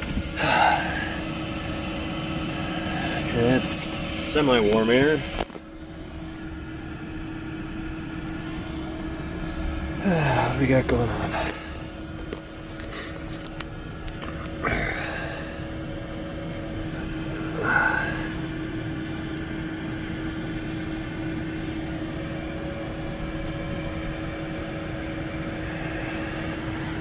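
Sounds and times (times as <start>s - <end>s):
heater combustion fan hum: 0.0s - 27.0s.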